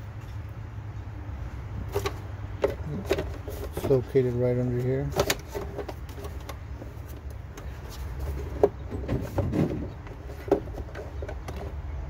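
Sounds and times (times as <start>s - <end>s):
plastic duct rubbing and knocking: 1.9s - 11.8s.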